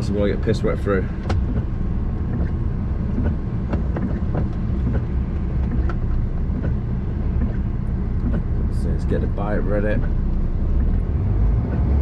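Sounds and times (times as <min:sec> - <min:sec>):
lorry engine rumble: 0:00.0 - 0:12.0
road noise: 0:00.0 - 0:12.0.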